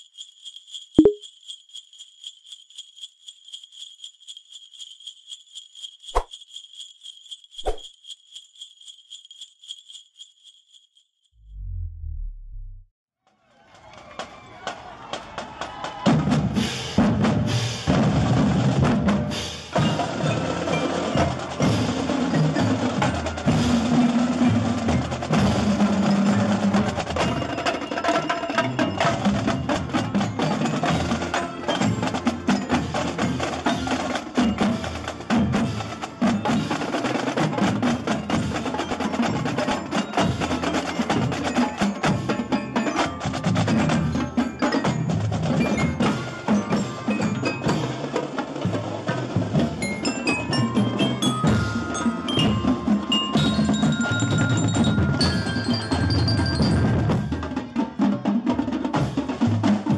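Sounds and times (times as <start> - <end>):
wood-block beat: 0.0 - 10.6, 19.2 - 59.9
chiming bells: 0.0 - 11.0, 19.3 - 58.3.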